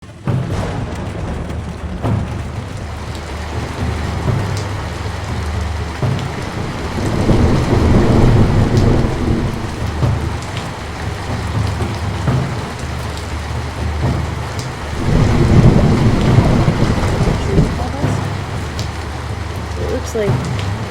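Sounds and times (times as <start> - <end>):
rain falling steadily: 0.0 - 20.9
thunder rumbling: 0.0 - 20.9.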